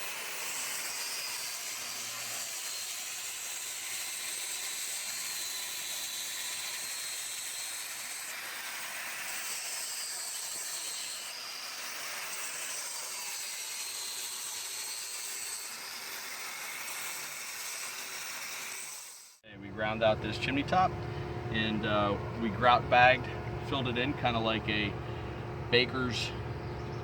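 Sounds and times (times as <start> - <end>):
mortar grinder whining: 0.0 - 27.0.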